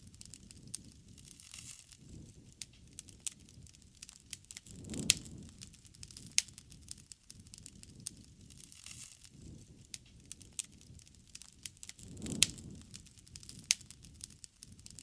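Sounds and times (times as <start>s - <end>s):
low rumble of fire: 0.0s - 15.0s
wood fire pops and snaps: 0.0s - 15.0s.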